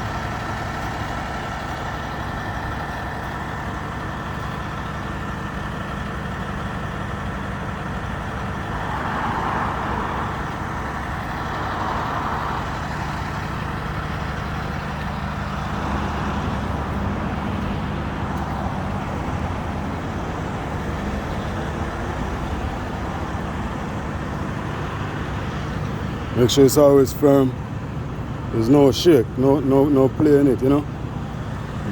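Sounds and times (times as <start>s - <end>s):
heavy engine idling: 0.0s - 31.9s.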